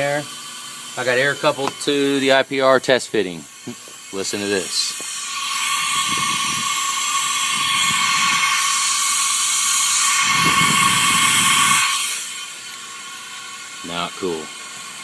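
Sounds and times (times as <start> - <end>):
compressed air hissing and whistling: 0.0 - 15.0.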